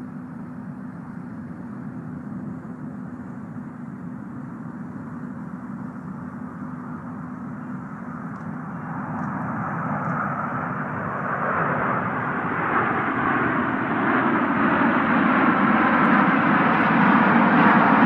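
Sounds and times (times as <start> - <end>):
jet engines rushing with low hum: 0.0 - 18.0.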